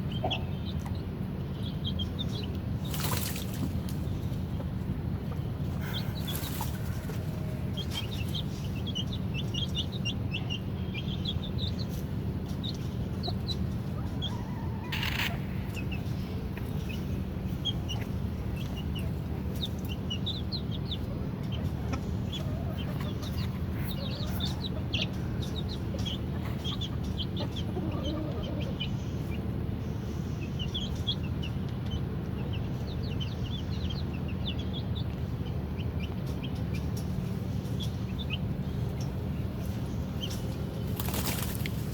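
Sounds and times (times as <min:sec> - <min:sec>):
birds chirping: 0:00.0 - 0:41.9
steady low hum: 0:00.0 - 0:41.9.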